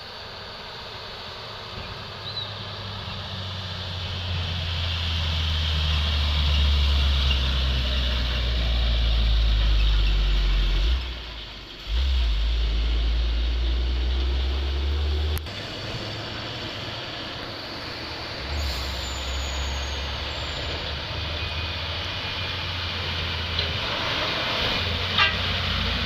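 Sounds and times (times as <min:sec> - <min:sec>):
diesel truck engine droning: 0:00.0 - 0:26.0.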